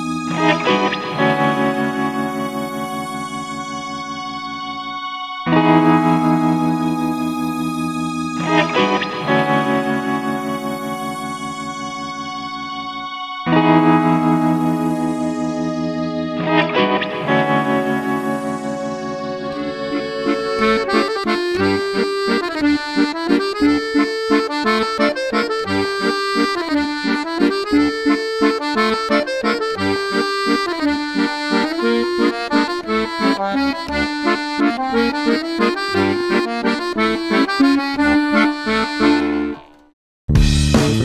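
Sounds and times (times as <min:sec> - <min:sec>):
accordion music: 0:00.0 - 0:41.0.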